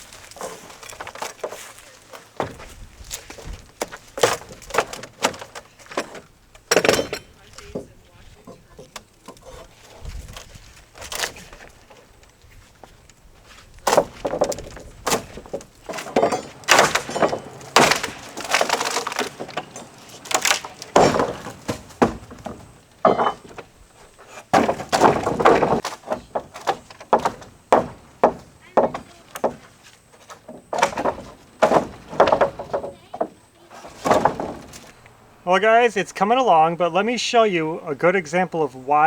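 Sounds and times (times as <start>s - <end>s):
wood cracking and creaking: 0.0s - 37.1s.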